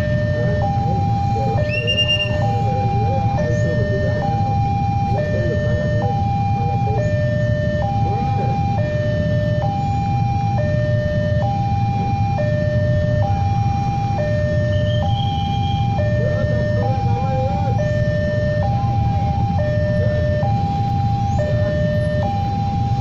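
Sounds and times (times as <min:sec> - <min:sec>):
two-tone level crossing alarm: 0:00.0 - 0:23.0.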